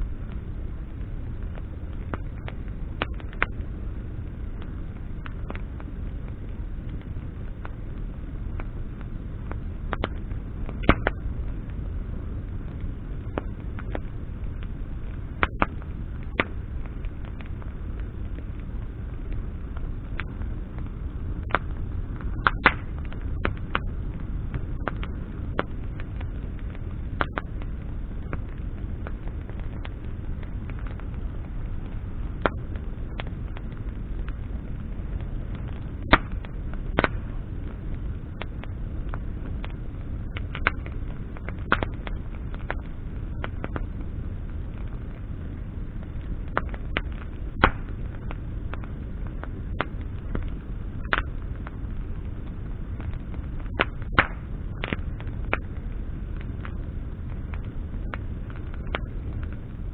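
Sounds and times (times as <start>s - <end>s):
campfire crackling: 0.0s - 59.9s
low rush of fire: 0.0s - 59.9s.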